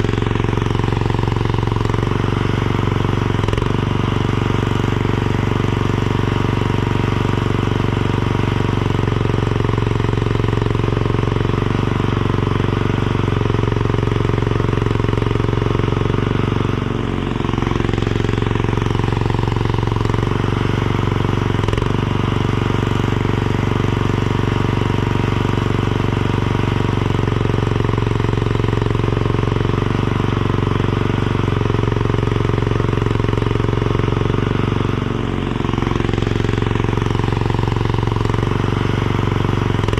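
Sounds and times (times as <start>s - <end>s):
small loader engine running: 0.0s - 39.9s.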